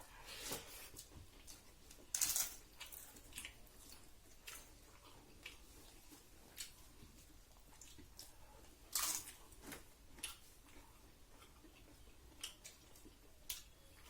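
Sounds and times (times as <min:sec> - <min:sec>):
person eating with crunches: 0:00.3 - 0:14.0.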